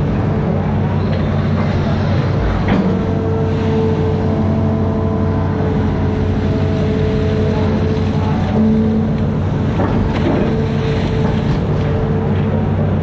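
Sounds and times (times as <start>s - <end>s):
diesel engine droning: 0.0s - 13.0s
engine whining tones: 0.0s - 13.0s.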